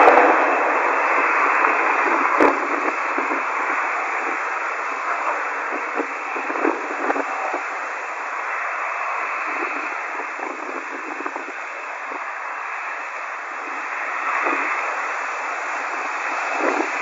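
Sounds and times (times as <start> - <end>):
faint crackles: 0.0 - 17.0
radio static hiss: 0.0 - 17.0.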